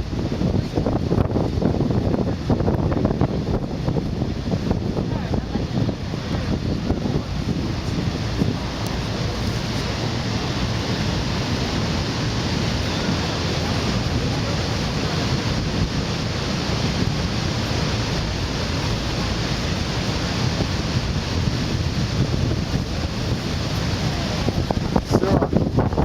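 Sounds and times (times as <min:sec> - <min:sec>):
waterfall roaring: 0:00.0 - 0:26.0
wind buffeting microphone: 0:00.0 - 0:26.0.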